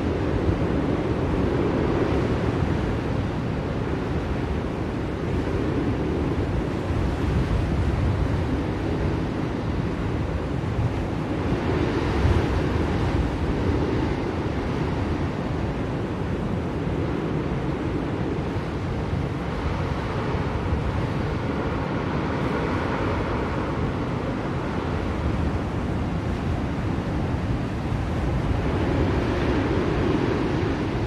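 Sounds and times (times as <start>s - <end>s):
blizzard wind rushing: 0.0s - 31.0s.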